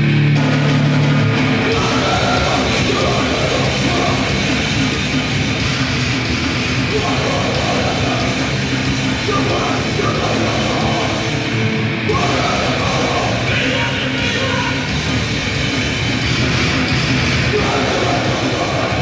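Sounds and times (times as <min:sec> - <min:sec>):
heavy metal band playing live: 0:00.0 - 0:19.0.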